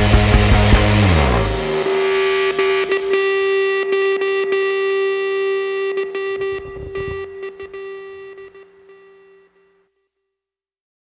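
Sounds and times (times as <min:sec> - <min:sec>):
distorted electric guitar note: 0:00.0 - 0:09.6.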